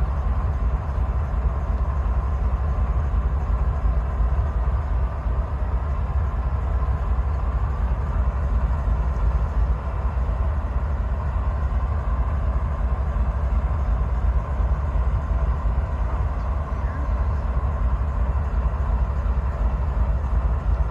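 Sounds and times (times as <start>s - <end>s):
diesel locomotive idling: 0.0s - 20.9s.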